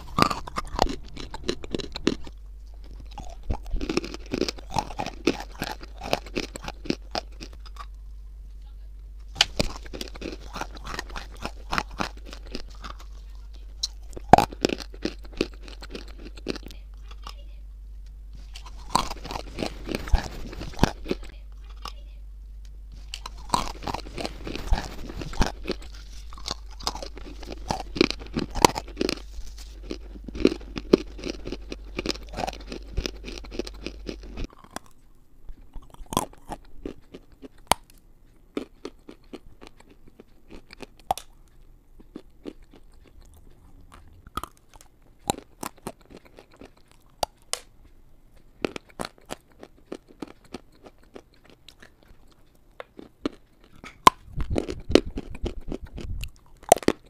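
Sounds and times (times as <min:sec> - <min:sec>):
crunching and chewing clay: 0:00.0 - 0:08.2, 0:09.2 - 0:17.4, 0:18.3 - 0:22.0, 0:22.6 - 0:57.0
low steady hum: 0:00.0 - 0:57.0.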